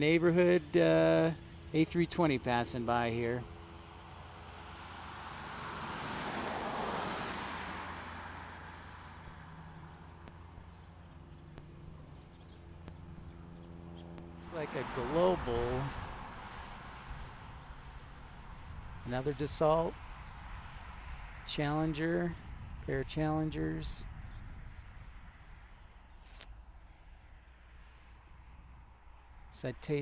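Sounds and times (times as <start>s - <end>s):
jet airliner engines rushing: 0.0s - 25.3s
crickets chirping: 0.0s - 30.0s.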